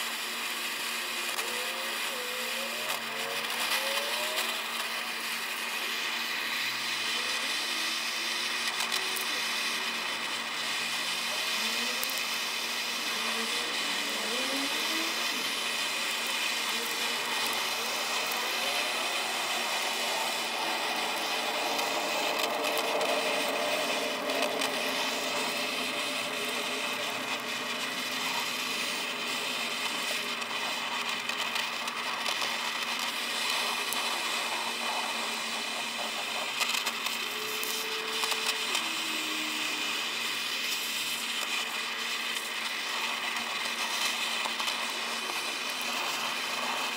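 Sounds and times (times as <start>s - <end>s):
blow torch flame hissing: 0.0s - 46.9s.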